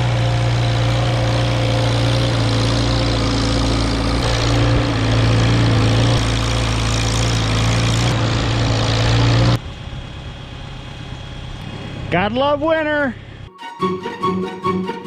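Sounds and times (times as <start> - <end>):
tractor engine running: 0.0 - 13.5.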